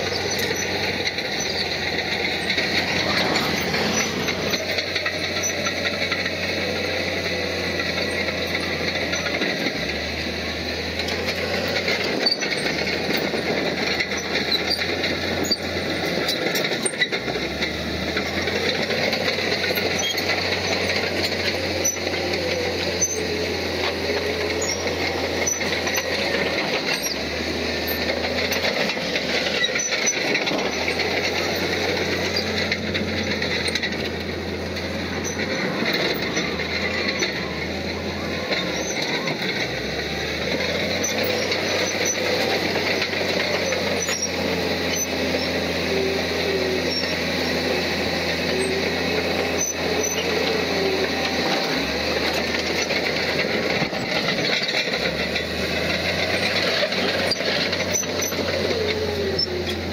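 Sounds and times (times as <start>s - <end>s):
bulldozer diesel engine running: 0.0s - 59.9s
metallic clatter of tracks: 0.0s - 59.9s.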